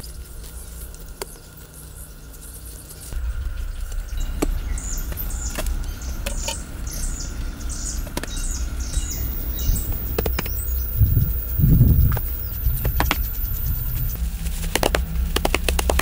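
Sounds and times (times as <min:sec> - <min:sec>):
bird chirping: 0:00.0 - 0:14.2
low rumble: 0:00.0 - 0:16.0.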